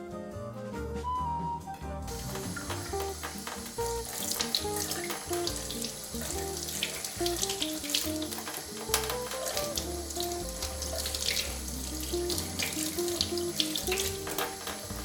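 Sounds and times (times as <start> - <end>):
background music: 0.0 - 15.0
tap water running into sink: 2.1 - 15.0
water splashing: 2.1 - 15.0.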